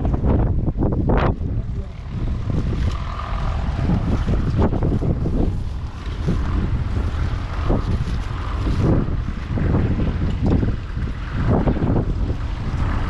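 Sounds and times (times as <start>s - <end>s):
diesel engine running: 0.0s - 13.0s
wind buffeting microphone: 0.0s - 13.0s.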